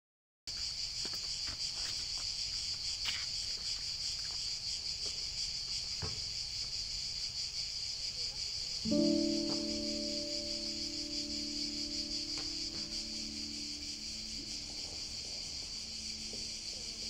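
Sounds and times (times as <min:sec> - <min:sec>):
insects chirring: 0:00.5 - 0:17.0.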